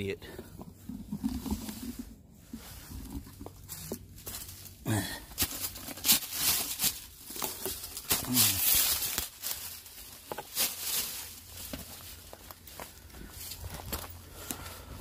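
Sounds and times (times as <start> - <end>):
footsteps crunching through leaves: 2.7 - 14.9.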